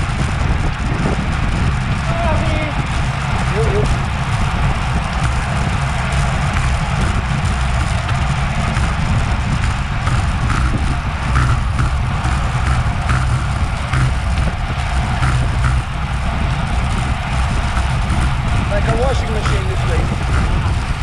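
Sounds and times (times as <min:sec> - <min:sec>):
road noise: 0:00.0 - 0:21.0
wind rushing over microphone: 0:00.0 - 0:21.0.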